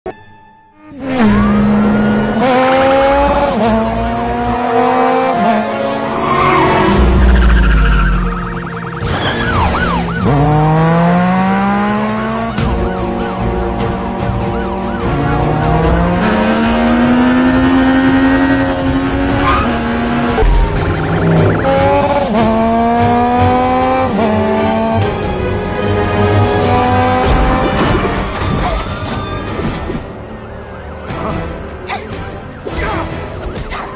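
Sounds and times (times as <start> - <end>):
engines revving hard: 1.1 - 28.5.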